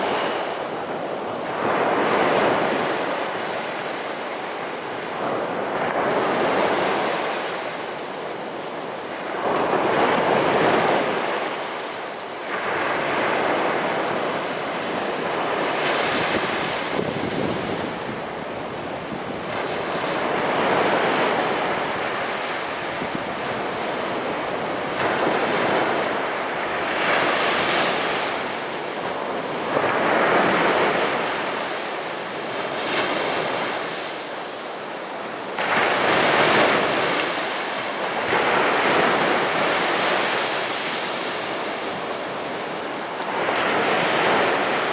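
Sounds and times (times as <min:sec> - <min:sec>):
waves breaking on beach: 0:00.0 - 0:44.9.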